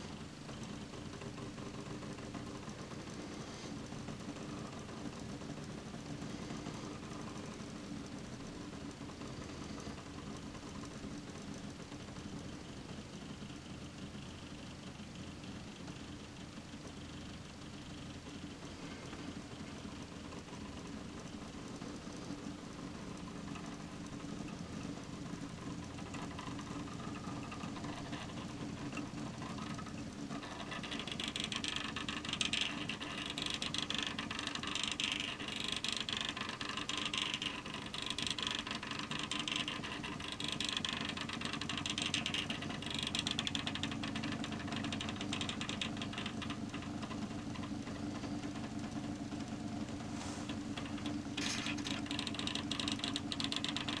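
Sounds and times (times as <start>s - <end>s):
small motor and gears whirring: 0.0s - 54.0s.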